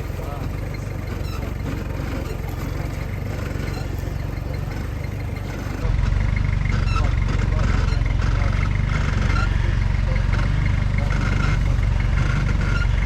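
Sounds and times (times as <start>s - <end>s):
engine idling low: 0.0s - 13.0s.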